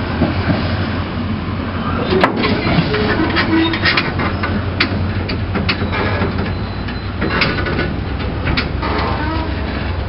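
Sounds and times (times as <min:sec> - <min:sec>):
clicks and knocks from train: 0:00.1 - 0:00.7, 0:02.0 - 0:10.0.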